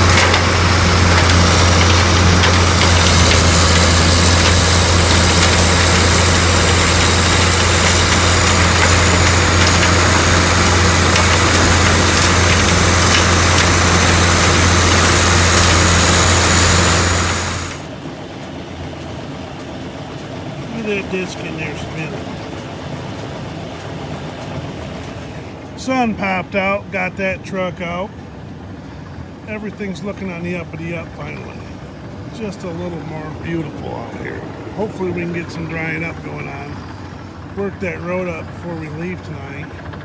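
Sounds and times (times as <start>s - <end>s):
diesel engine humming: 0.0s - 40.0s.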